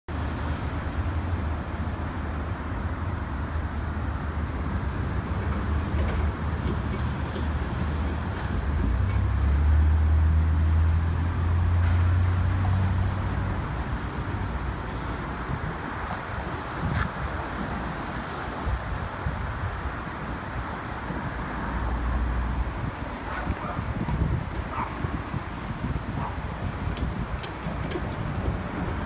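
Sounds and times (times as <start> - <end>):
rumble of passing vehicles: 0.1 - 29.0
vehicle engine hum: 0.1 - 29.0.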